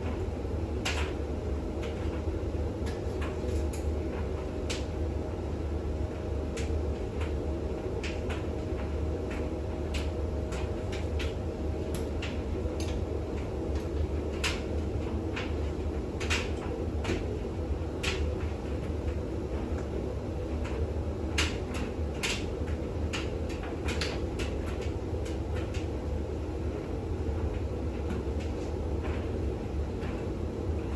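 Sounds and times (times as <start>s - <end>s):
washing machine spinning: 0.0s - 30.9s.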